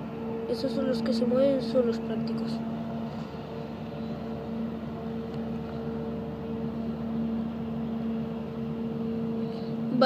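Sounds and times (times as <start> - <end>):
ferry engines droning: 0.0 - 10.0.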